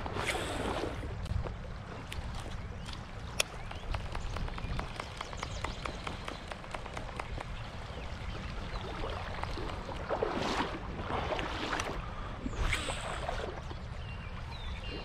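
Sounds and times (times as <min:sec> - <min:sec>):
creek water splashing and trickling: 0:00.0 - 0:15.0
wind rumble on microphone: 0:00.0 - 0:15.0.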